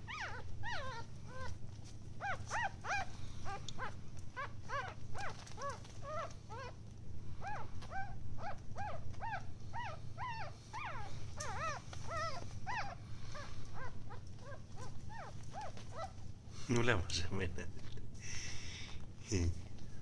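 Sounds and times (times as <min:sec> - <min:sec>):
puppies crying: 0:00.0 - 0:16.4
low steady hum: 0:00.0 - 0:20.0.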